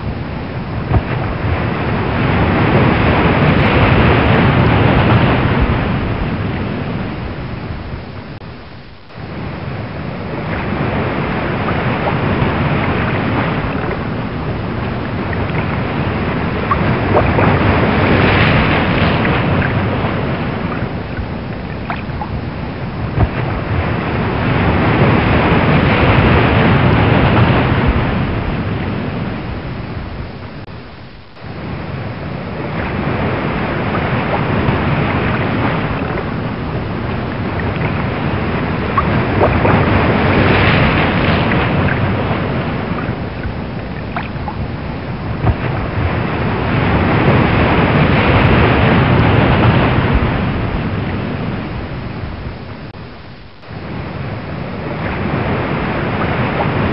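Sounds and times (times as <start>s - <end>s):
ocean waves surging: 0.0s - 56.9s.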